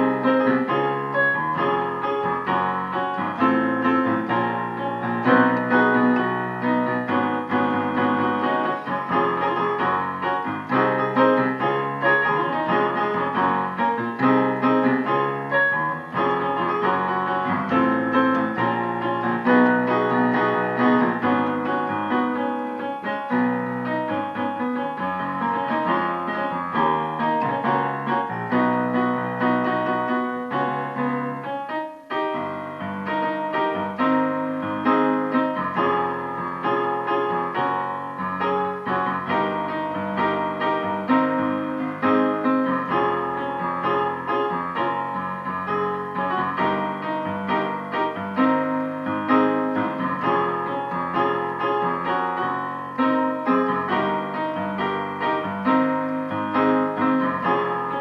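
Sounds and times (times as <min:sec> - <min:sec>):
gospel piano chords: 0:00.0 - 0:58.0.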